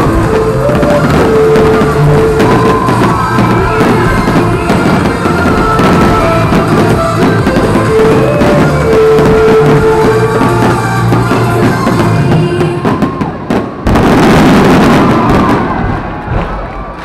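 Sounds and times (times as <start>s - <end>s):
fireworks bursting: 0.0s - 17.0s
loud soundtrack music: 0.0s - 17.0s.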